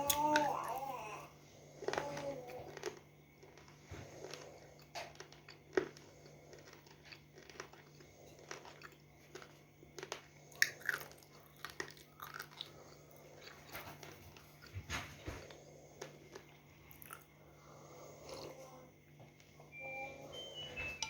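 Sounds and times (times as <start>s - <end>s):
faint low hum: 0.0s - 21.0s
crunchy chewing: 1.6s - 19.6s.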